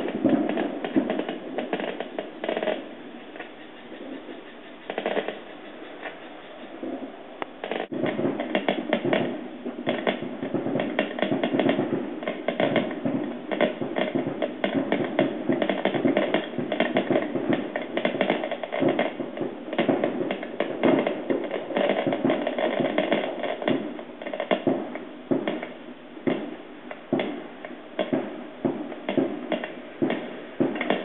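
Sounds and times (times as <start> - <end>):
fireworks popping and crackling: 0.0 - 31.0.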